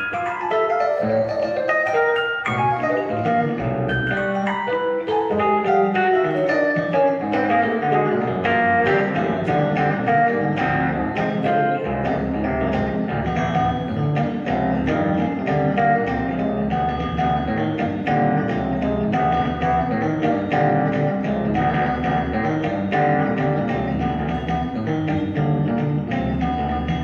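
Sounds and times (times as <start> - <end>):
jazz electric piano: 0.0 - 27.0.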